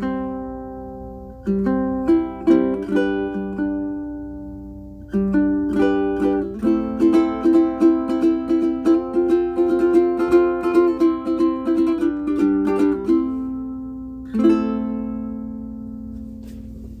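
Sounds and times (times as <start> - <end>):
ukulele fingerpicking and strumming: 0.0 - 17.0.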